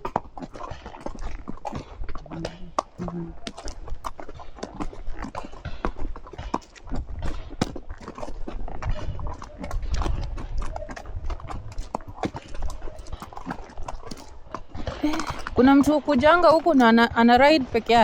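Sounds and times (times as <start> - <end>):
horse hooves clip-clopping: 0.0 - 18.0.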